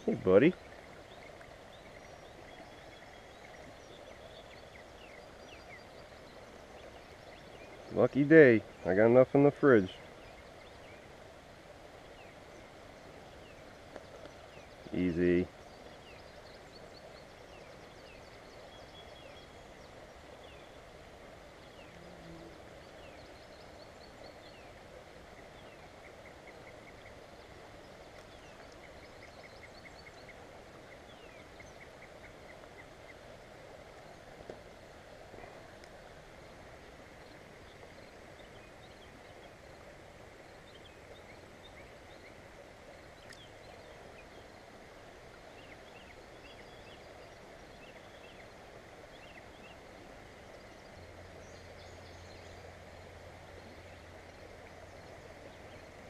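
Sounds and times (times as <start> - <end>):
outdoor background rush: 0.0 - 56.0
songbirds singing: 0.0 - 56.0.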